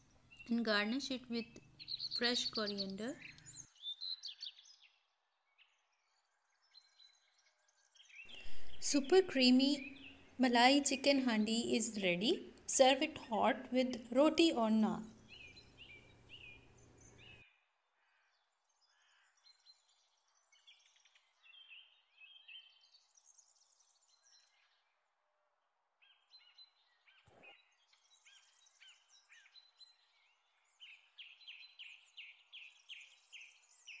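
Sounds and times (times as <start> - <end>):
small birds chirping: 0.0 - 17.5, 18.8 - 24.9, 26.0 - 34.0.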